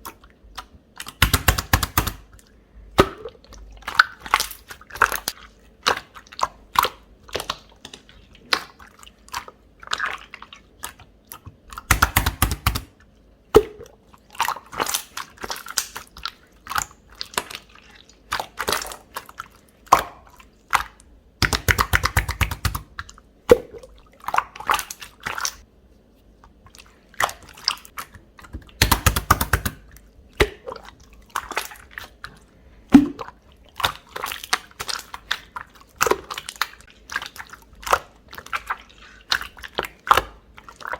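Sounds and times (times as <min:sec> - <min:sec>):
hands squishing slime: 0:00.0 - 0:40.9.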